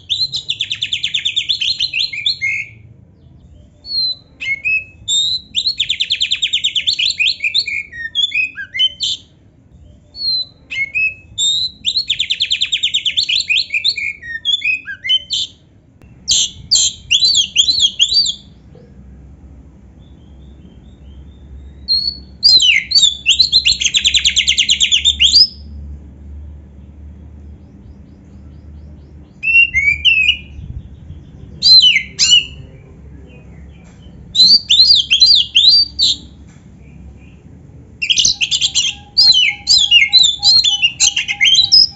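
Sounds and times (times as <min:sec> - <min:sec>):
bird singing whistles and trills: 0:00.0 - 0:15.6, 0:16.2 - 0:18.6, 0:20.0 - 0:25.7, 0:27.6 - 0:37.4, 0:38.0 - 0:41.9.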